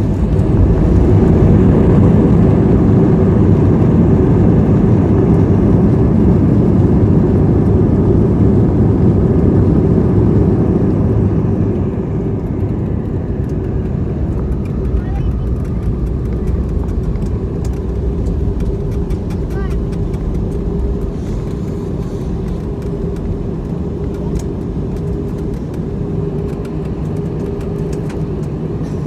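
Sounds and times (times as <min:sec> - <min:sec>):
airliner engines and airflow rumble: 0:00.0 - 0:29.0.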